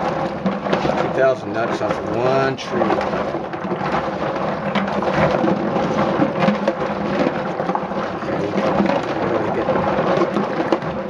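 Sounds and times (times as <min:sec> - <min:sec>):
water sloshing in sink: 0:00.0 - 0:11.0.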